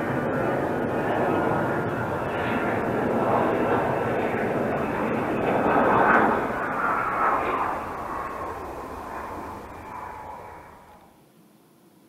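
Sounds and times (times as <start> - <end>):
aircraft passing over: 0.0 - 11.3.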